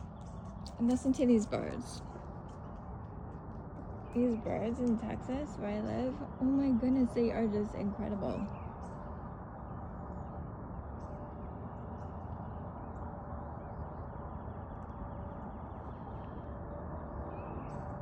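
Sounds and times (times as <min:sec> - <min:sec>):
birds chirping: 0:00.0 - 0:02.8, 0:03.8 - 0:18.0
steady low rumble: 0:00.0 - 0:18.0.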